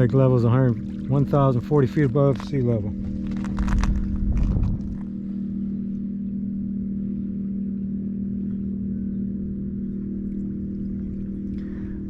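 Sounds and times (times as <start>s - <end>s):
engine humming steadily: 0.0s - 12.0s.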